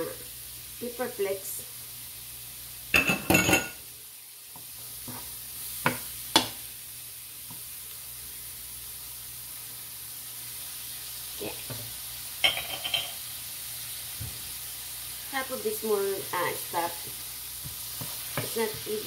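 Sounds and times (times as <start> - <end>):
vegetables sizzling in frying pan: 0.0 - 19.0.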